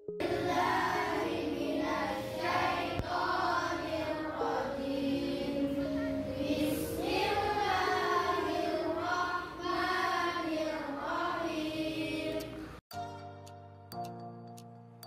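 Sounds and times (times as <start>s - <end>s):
girls chanting in unison: 0.2s - 12.6s.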